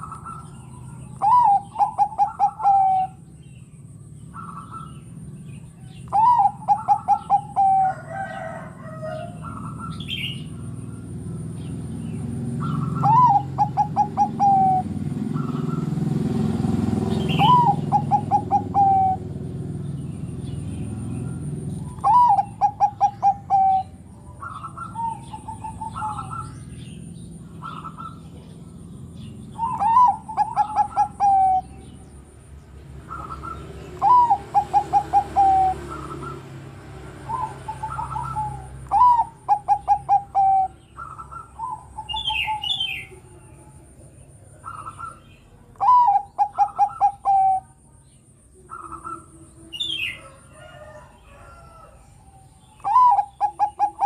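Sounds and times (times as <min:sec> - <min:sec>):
dove cooing: 0:00.0 - 0:03.3, 0:04.3 - 0:05.1, 0:05.8 - 0:32.2, 0:33.0 - 0:47.8, 0:48.5 - 0:54.0.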